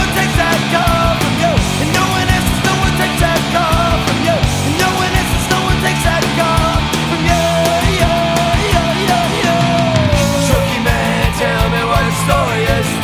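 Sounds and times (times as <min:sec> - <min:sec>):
rock music with driving beat: 0:00.0 - 0:13.0.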